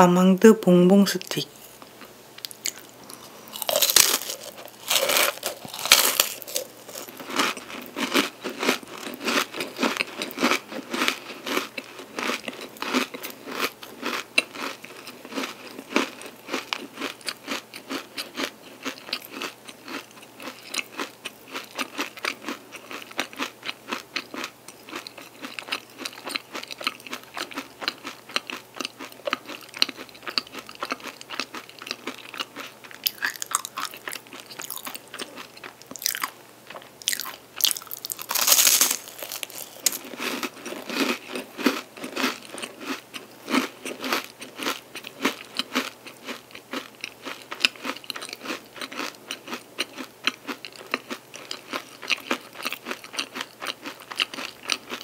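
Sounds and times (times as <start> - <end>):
crunchy pastry biting and chewing: 1.9 - 55.0.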